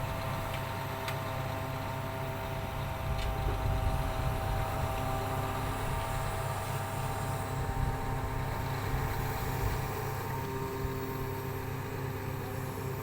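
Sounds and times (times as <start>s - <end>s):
construction machine engine running: 0.0s - 13.0s.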